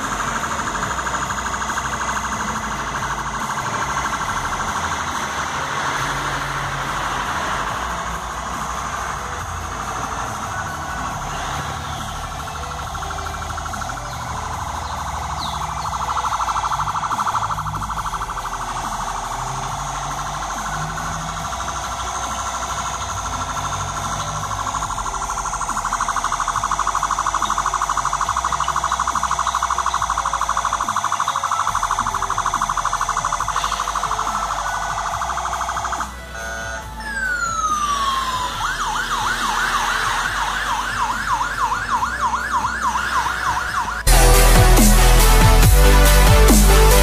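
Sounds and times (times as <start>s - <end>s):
toy police siren: 0.0s - 45.0s
loud electronic music: 0.0s - 47.0s.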